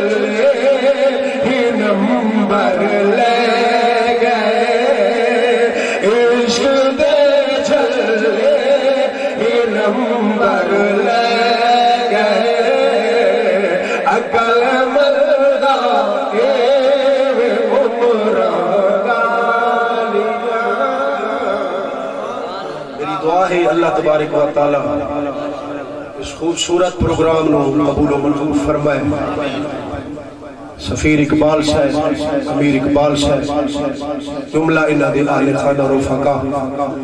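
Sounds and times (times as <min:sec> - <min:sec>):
man chanting devotional verse: 0:00.0 - 0:37.0.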